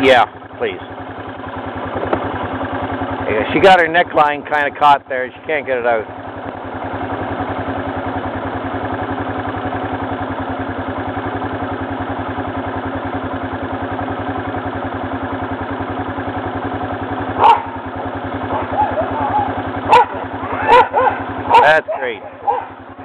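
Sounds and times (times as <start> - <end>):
engine idling with a putter: 0.0 - 23.0.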